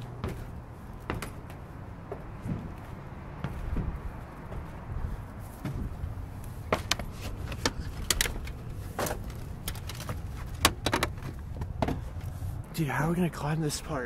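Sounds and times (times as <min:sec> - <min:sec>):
hands and shoes on slate tiles: 0:00.0 - 0:12.3
steady low rumble: 0:00.0 - 0:14.0.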